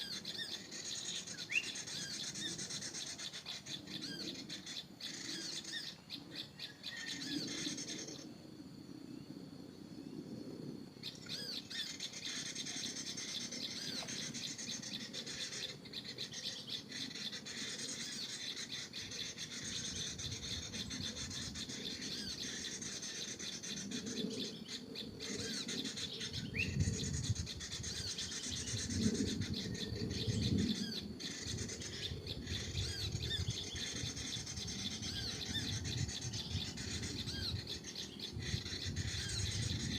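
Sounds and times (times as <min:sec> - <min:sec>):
small birds chirping: 0:00.0 - 0:08.3, 0:08.9 - 0:39.9.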